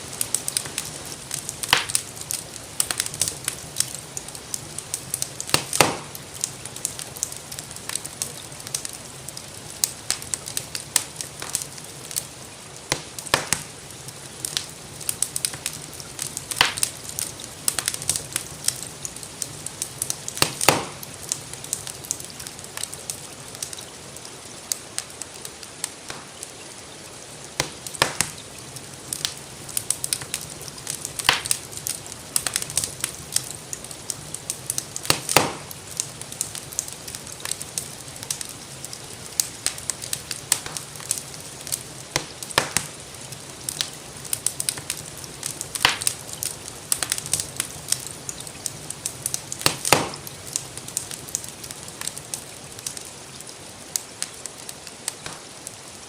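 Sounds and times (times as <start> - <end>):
gentle rain hiss: 0.0 - 56.0
wood fire crackling and popping: 0.0 - 56.0.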